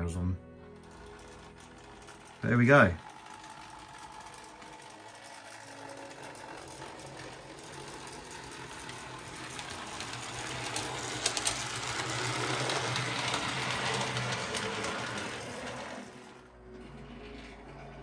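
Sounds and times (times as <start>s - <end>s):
small electric motor whirring: 0.6s - 18.0s
wheels rattling on rails: 0.6s - 18.0s.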